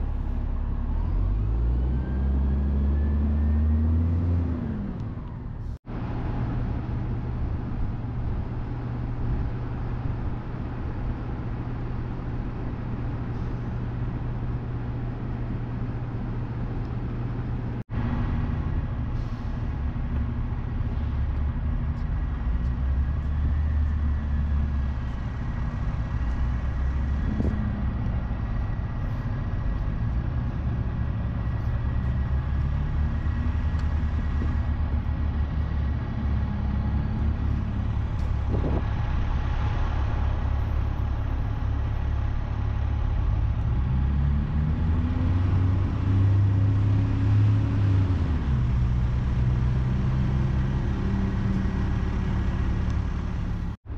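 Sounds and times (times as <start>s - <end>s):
bus engine rumbling: 0.0s - 53.9s.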